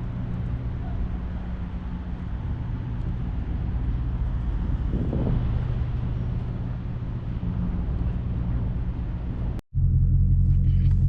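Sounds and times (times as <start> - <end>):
car engine exhaust drone: 0.0 - 11.0.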